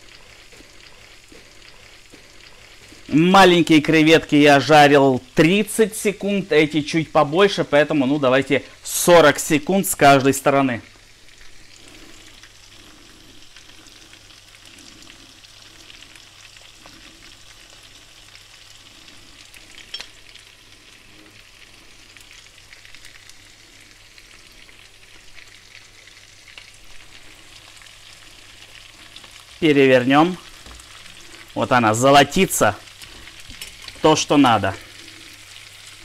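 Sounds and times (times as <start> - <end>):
prawns sizzling in oil: 0.0 - 36.0.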